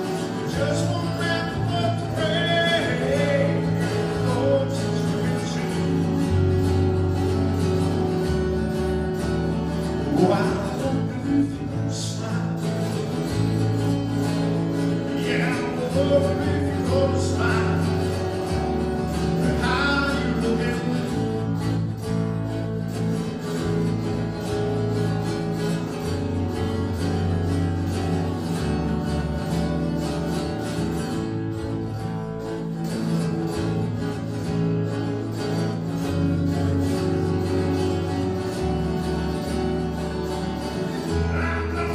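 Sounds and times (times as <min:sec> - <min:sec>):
acoustic guitar strummed and picked: 0:00.0 - 0:41.9
low bass notes: 0:00.0 - 0:41.9.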